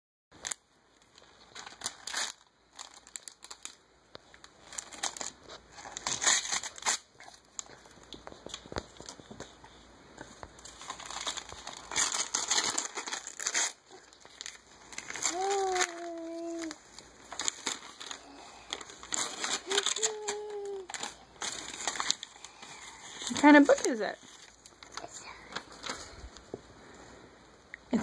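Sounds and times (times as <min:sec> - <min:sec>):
tissue paper and gift bag crinkling: 0:00.4 - 0:26.8.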